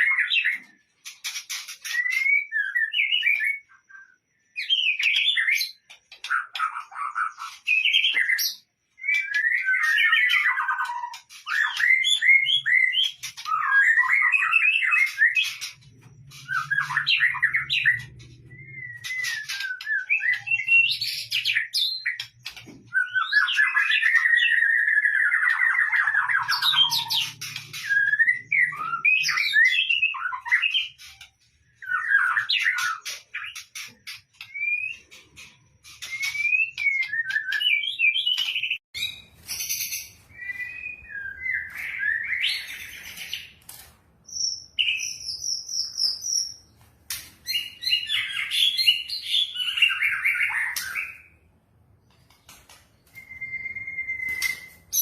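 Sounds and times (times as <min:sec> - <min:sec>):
bird singing whistles and trills: 0:01.4 - 0:43.6, 0:44.2 - 0:46.8, 0:47.4 - 0:51.4, 0:52.0 - 0:55.0.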